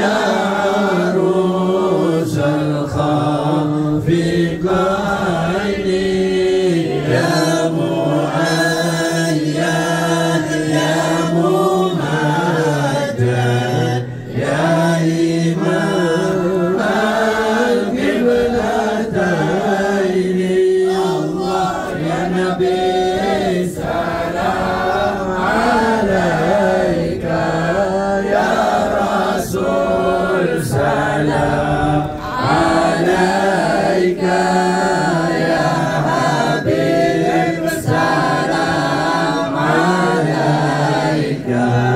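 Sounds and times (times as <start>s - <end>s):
congregation chanting in unison: 0.0s - 41.9s.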